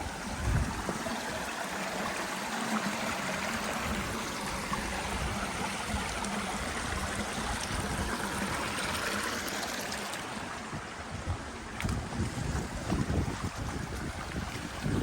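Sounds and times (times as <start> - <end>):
stream flowing: 0.0 - 15.0.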